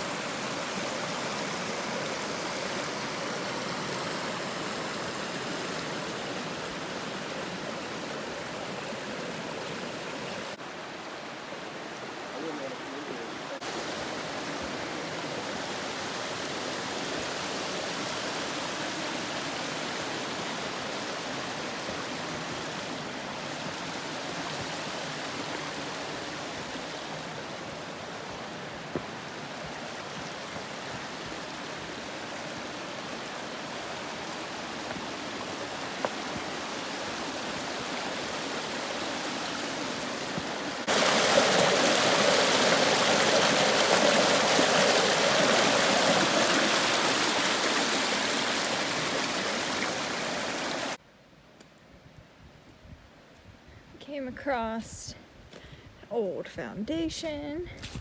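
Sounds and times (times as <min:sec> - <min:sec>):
creek rushing over rocks: 0:00.0 - 0:51.0.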